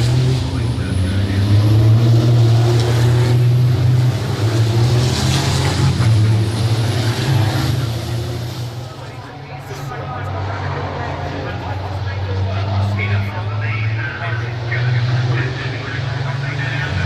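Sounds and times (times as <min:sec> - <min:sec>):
diesel truck engines droning: 0:00.0 - 0:17.0.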